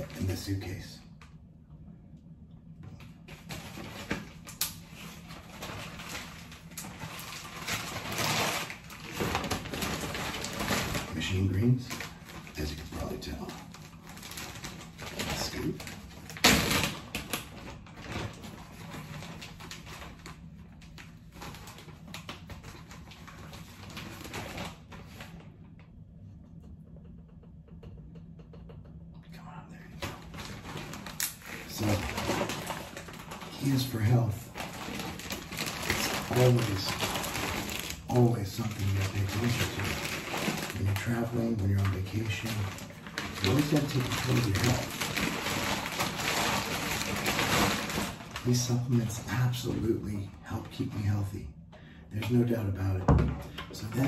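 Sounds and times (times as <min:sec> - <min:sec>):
plastic bags crinkling: 0:03.1 - 0:25.6, 0:29.9 - 0:51.2.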